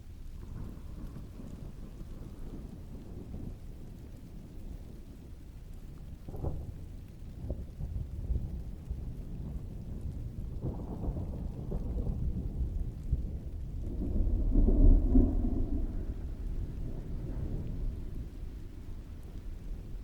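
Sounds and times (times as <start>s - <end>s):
steady rain: 0.0s - 20.0s
rolling thunder: 0.2s - 20.0s.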